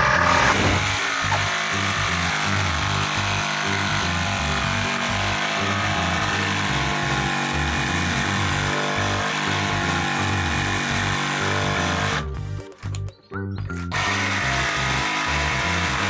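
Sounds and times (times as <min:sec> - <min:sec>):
jigsaw cutting through board: 0:00.0 - 0:12.2, 0:13.9 - 0:16.0
background music with a beat: 0:00.0 - 0:16.0.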